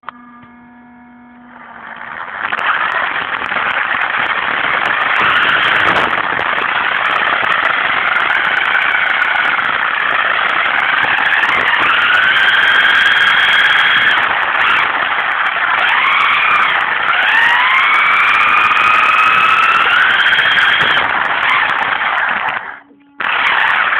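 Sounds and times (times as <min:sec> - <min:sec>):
electric motor whine: 0:00.0 - 0:23.9
tyre and drivetrain noise: 0:01.3 - 0:23.9.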